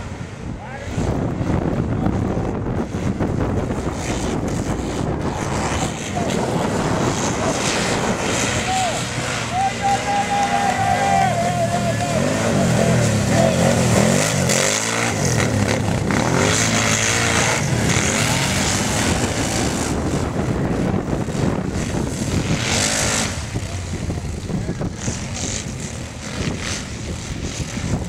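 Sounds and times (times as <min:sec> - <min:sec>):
racing atv engines revving: 0:00.0 - 0:28.0.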